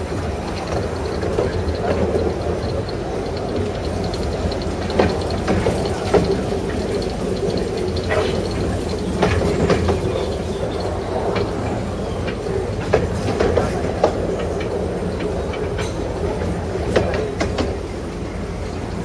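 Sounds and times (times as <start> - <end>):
wheels knocking over rail joints: 0.0 - 17.9
train low rumble: 0.0 - 19.0.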